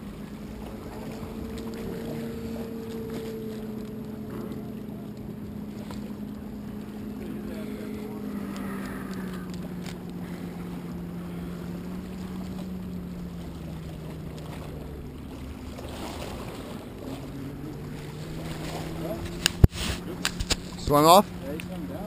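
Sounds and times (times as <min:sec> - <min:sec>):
motorboat engine droning: 0:00.0 - 0:22.0
wind rumble on microphone: 0:00.0 - 0:22.0.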